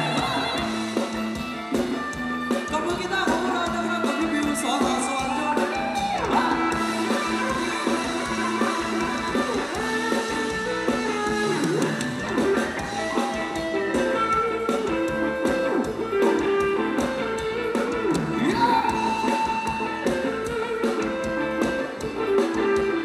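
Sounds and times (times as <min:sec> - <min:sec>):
band music with guitar: 0:00.0 - 0:23.0.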